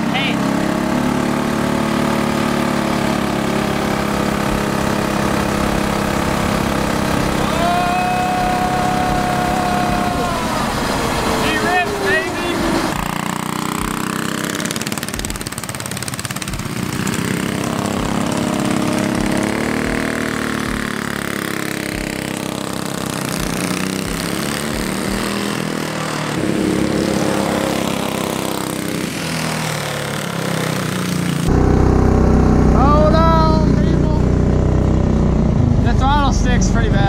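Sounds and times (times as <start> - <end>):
go-kart engine revving: 0.0 - 37.0.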